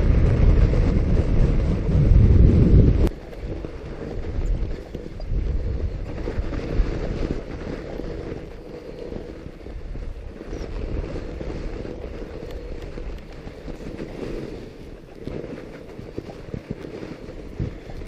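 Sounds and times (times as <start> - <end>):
bike tyres rolling on snow: 0.0 - 18.0
wind buffeting microphone: 0.0 - 18.0.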